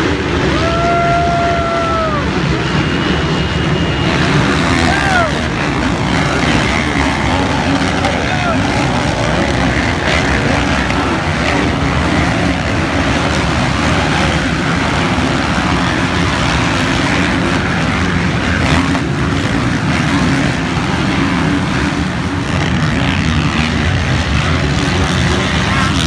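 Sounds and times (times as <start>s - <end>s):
motocross bike engines running: 0.0s - 26.0s.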